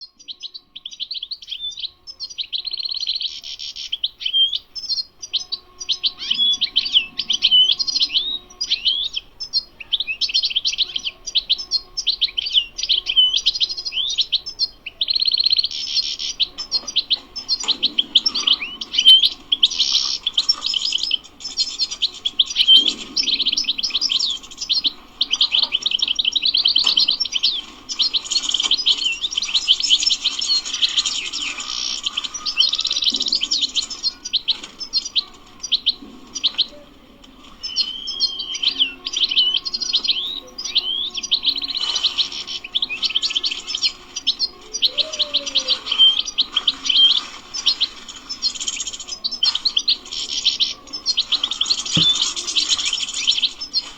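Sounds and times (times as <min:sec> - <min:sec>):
goldfinch twittering and trilling: 0:00.0 - 0:36.8, 0:37.4 - 0:53.9.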